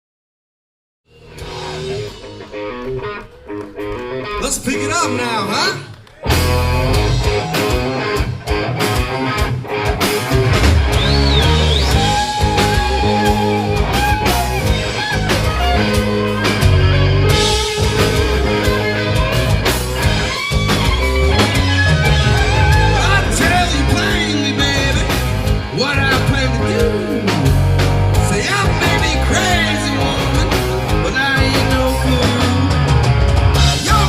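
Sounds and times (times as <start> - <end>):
guitar lead with bending notes: 1.1 - 5.6, 6.2 - 34.0
rock band playing: 1.1 - 34.0.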